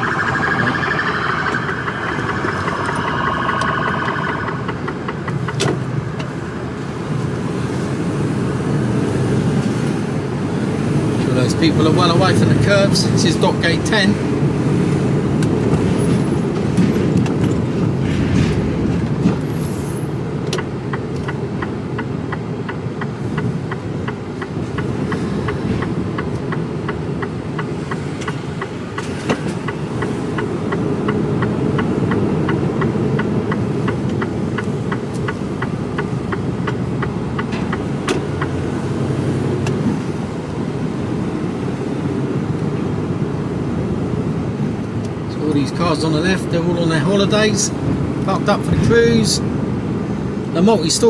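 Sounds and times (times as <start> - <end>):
lorry engine and road noise: 0.0 - 51.0.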